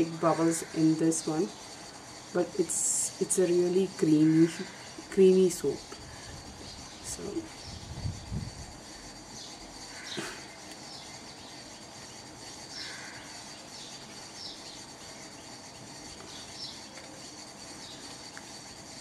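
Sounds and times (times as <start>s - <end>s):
faint bird chirping: 0.0s - 19.0s
soft steady hiss: 0.0s - 19.0s.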